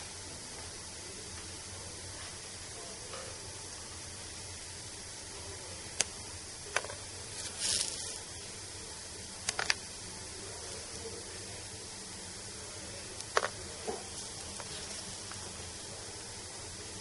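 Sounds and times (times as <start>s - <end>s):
steady faint hiss: 0.0s - 17.0s.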